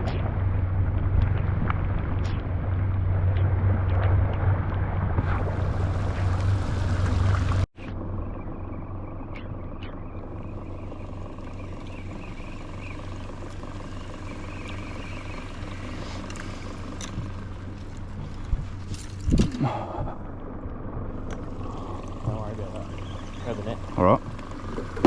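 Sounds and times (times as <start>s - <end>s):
outboard motor humming: 0.0s - 25.0s.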